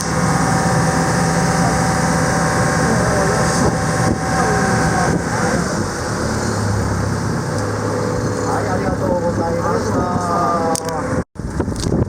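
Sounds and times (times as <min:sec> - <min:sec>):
boat engine running: 0:00.0 - 0:12.0
steady rushing noise: 0:00.0 - 0:12.0.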